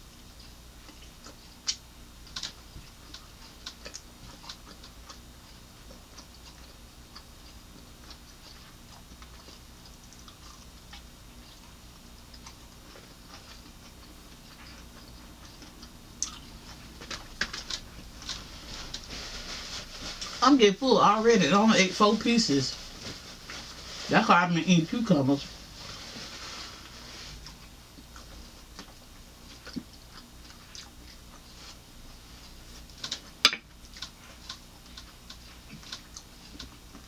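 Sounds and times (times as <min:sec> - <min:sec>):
crunching and chewing: 0:00.0 - 0:20.4, 0:25.3 - 0:37.0
faint low hum: 0:00.0 - 0:37.0.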